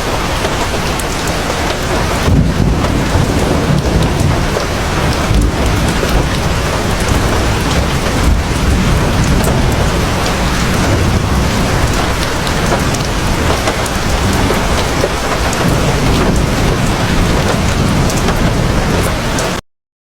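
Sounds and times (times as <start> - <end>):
heavy rain falling: 0.0 - 19.6.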